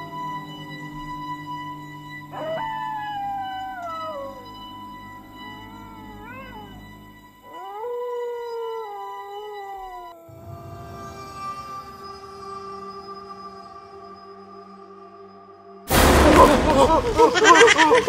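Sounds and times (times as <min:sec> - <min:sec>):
dog howling: 0:00.0 - 0:15.0.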